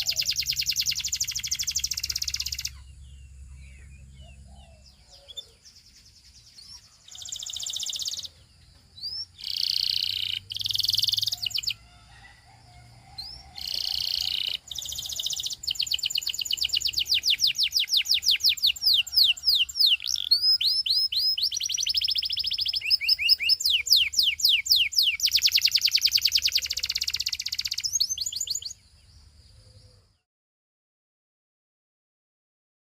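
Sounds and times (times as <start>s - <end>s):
canary singing: 0.0s - 29.4s.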